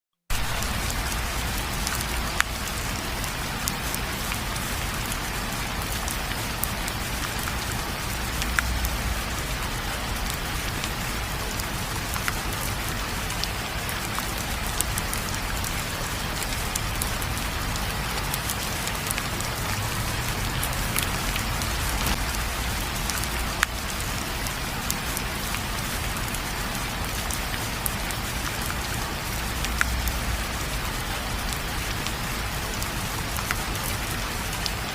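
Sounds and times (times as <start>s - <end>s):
heavy rain falling: 0.3s - 34.9s.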